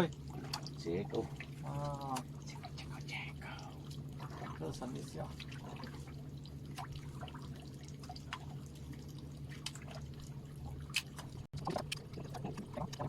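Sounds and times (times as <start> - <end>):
steady low hum: 0.0 - 13.0
water lapping against boat hull: 0.0 - 13.0.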